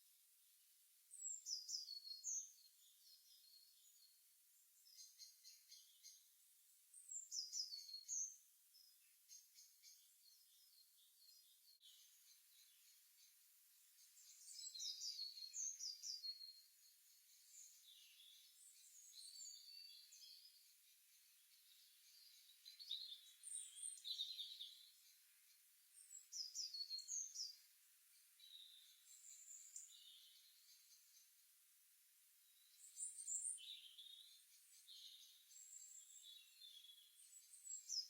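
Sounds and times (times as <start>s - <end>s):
faint steady hiss: 0.0s - 38.0s
songbirds chirping: 0.0s - 38.0s.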